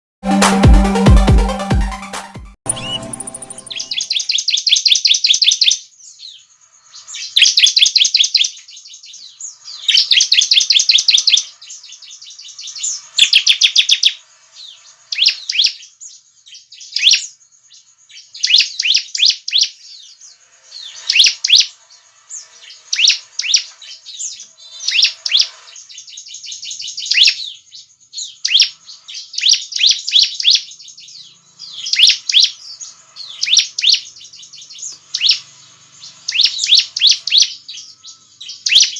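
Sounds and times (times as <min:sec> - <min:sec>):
bird singing rapid chirps: 0:02.7 - 0:38.9.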